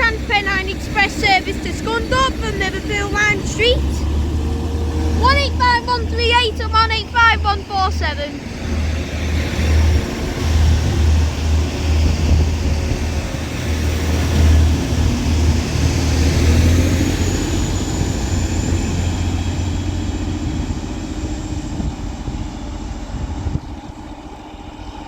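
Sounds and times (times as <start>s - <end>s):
diesel engines throbbing: 0.0s - 25.0s
high whine: 0.0s - 25.0s.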